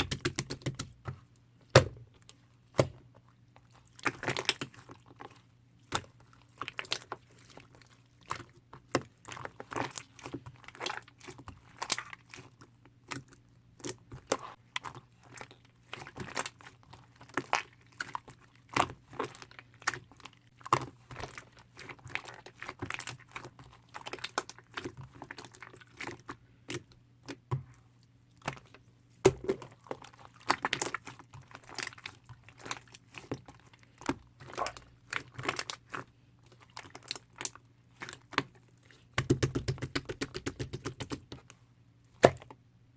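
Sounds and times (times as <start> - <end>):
slime squishing and crackling: 1.7 - 27.7, 28.3 - 41.5.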